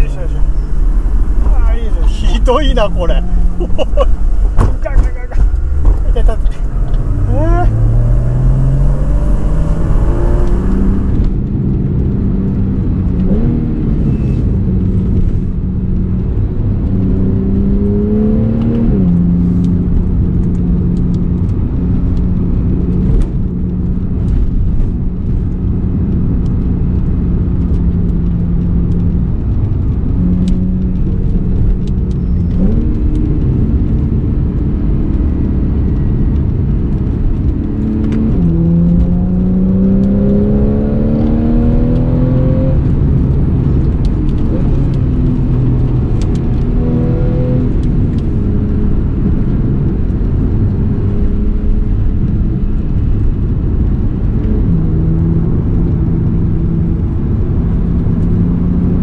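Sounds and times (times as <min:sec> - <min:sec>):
car engine and exhaust accelerating: 0:00.0 - 0:59.0
road and wind rumble: 0:00.0 - 0:59.0.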